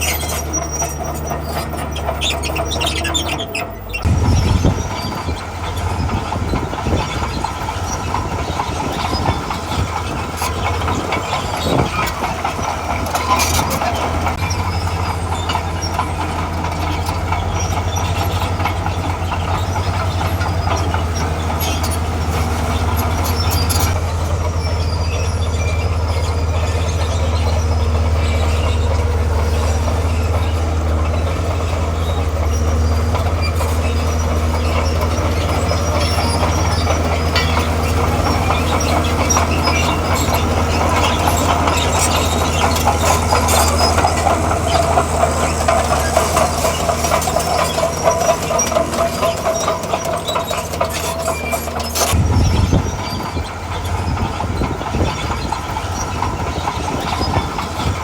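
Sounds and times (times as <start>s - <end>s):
squealing tone: 0.0s - 54.3s
crawler tracks clanking and squeaking: 0.0s - 58.0s
diesel engine running: 0.0s - 58.0s.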